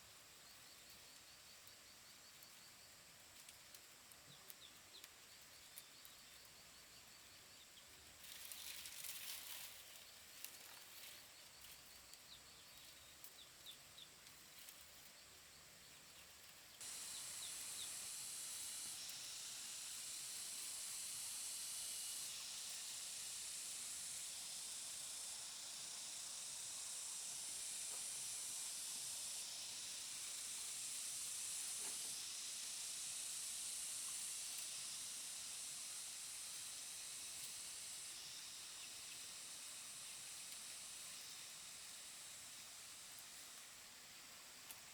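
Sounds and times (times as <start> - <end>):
cicadas chorus hissing: 0.0 - 44.9.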